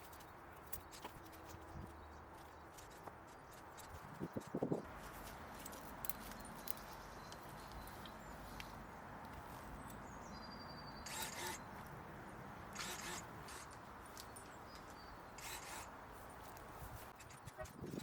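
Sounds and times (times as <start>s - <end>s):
outdoor background: 0.0s - 18.0s.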